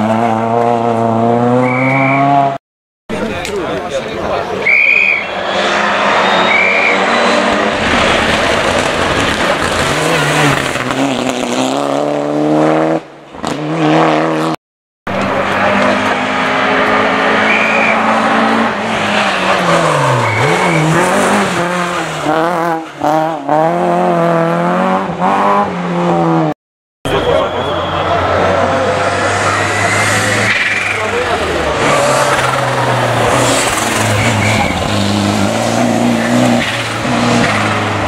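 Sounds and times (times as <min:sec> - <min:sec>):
rally car engine revving: 0:00.0 - 0:04.5, 0:05.2 - 0:38.0.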